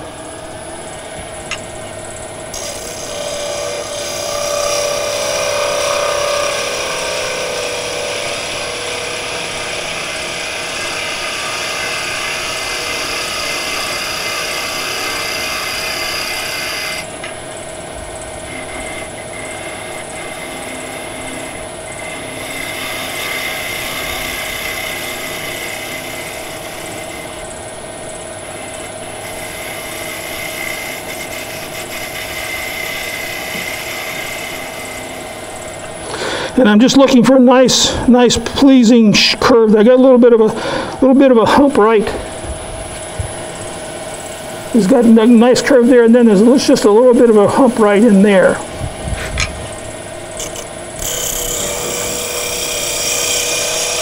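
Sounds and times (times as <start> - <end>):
lathe humming: 0.0 - 54.0
turning tool scraping wood: 2.5 - 17.4, 18.2 - 54.0.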